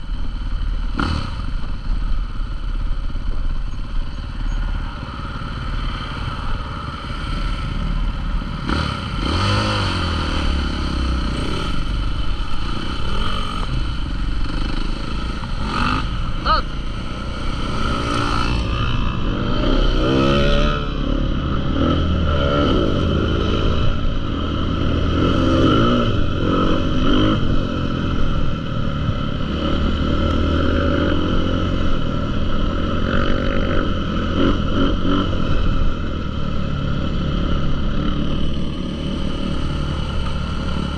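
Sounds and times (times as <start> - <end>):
motocross bike engines revving: 3.9 - 40.9.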